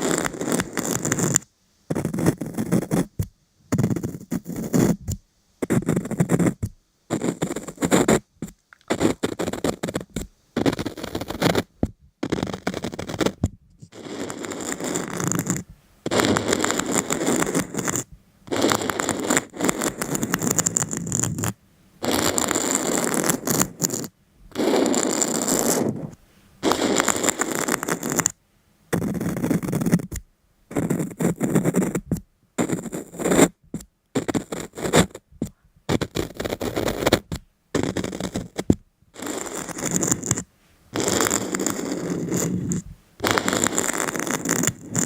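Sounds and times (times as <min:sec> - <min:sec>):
scratching and scraping on a surface: 0:00.0 - 0:45.0.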